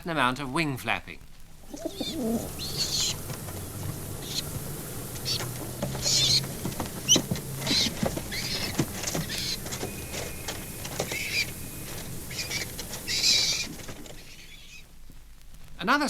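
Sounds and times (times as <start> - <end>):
wings flapping: 1.4 - 15.8
pigeon cooing: 1.6 - 14.8
squab high-pitched calls: 1.6 - 14.9.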